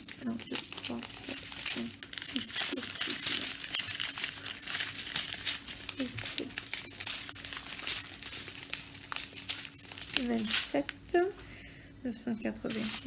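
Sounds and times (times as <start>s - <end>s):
plastic sachets crinkling: 0.0s - 13.0s.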